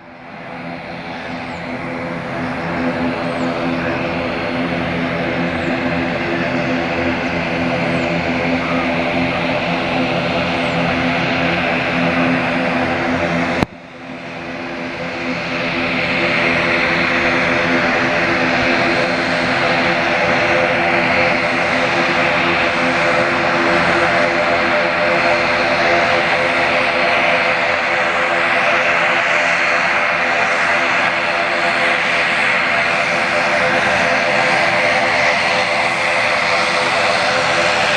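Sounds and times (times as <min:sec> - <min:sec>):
turboprop engines droning: 0:00.0 - 0:37.9.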